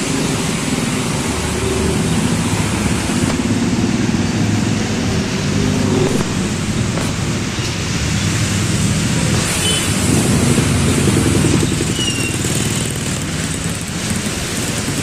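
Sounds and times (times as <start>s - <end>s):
motorcycle and car engines: 0.0s - 15.0s.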